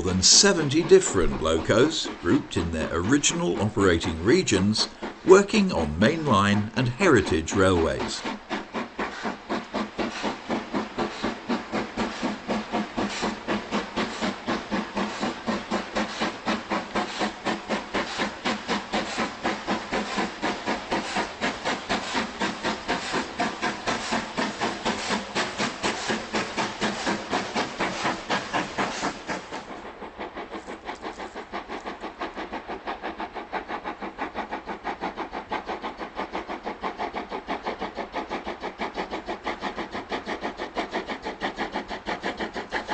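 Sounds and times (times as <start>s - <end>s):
steam locomotive exhaust beats: 0.0s - 42.9s.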